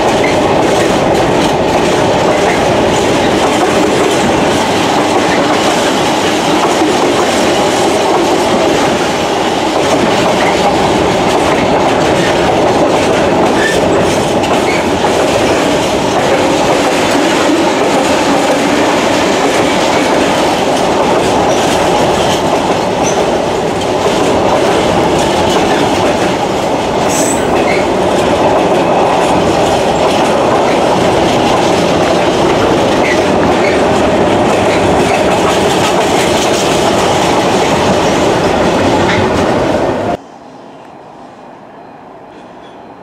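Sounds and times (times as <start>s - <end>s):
wheels clacking over rail joints: 0.0s - 39.7s
train wheels rumbling on rails: 0.0s - 40.3s.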